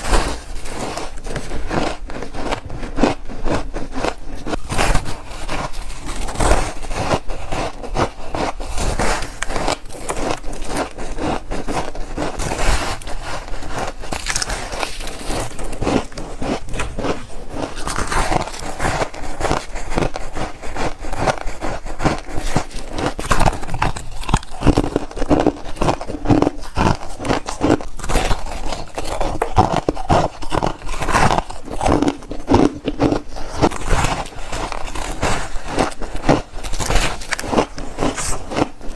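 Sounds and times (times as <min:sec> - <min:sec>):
crunchy chewing of frost: 0:00.0 - 0:38.9.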